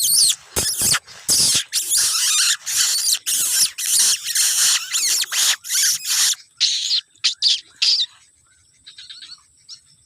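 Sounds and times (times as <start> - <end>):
chicks squealing calls: 0.0 - 8.2.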